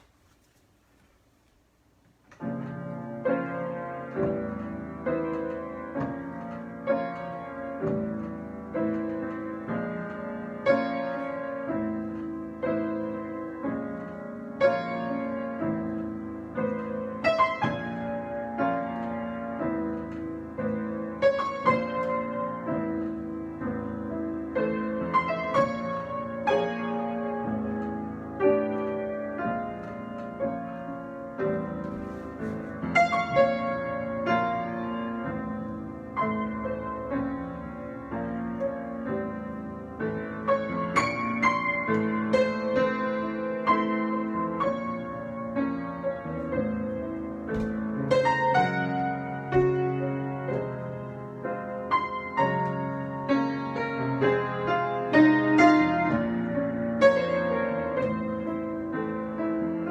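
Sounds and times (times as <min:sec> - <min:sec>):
solo piano improvisation: 0:00.0 - 0:59.9.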